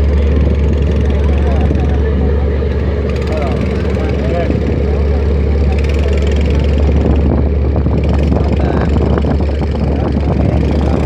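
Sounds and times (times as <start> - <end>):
engine running with low drone: 0.0 - 11.0.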